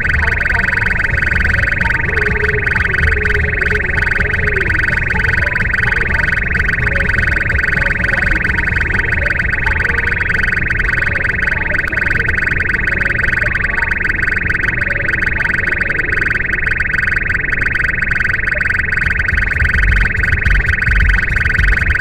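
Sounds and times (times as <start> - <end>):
radar detector pulsing alert tone: 0.0 - 22.0.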